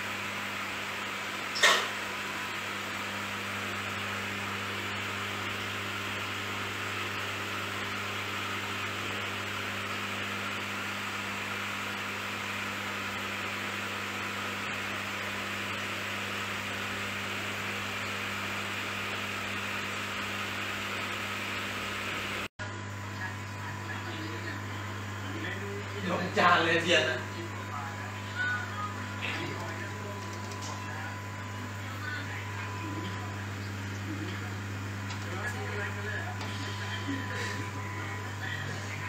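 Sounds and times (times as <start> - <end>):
steady electric hum: 0.0 - 39.0.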